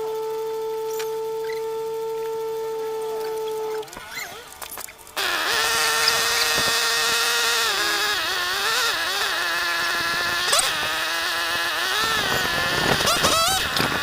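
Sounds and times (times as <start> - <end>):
motor running: 0.0 - 14.0.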